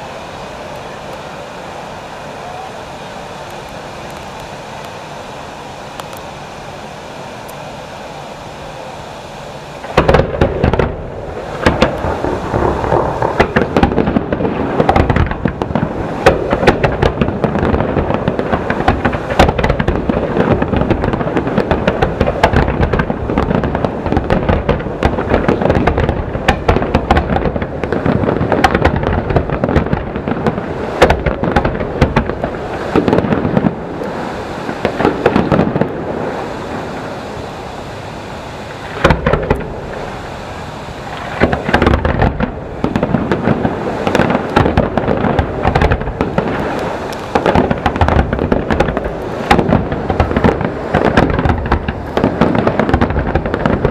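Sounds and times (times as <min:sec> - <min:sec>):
sharp crackling reports: 0:07.4 - 0:53.9
fireworks booming: 0:08.6 - 0:53.9.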